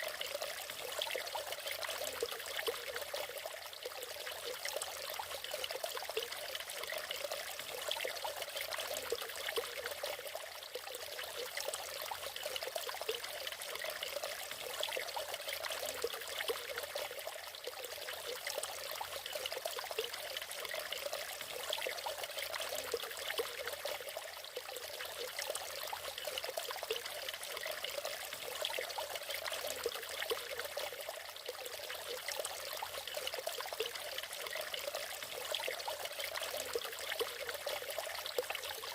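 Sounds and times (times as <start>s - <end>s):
waterfall splashing and trickling: 0.0s - 38.9s.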